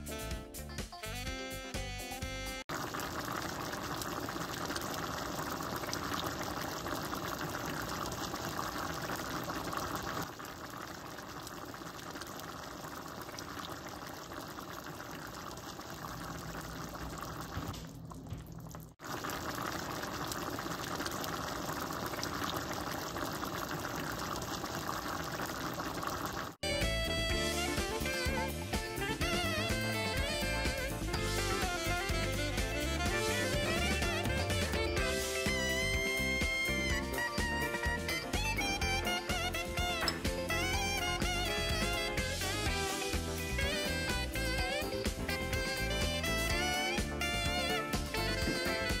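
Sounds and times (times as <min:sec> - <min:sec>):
soup boiling and bubbling: 0:02.7 - 0:26.8, 0:27.4 - 0:49.0.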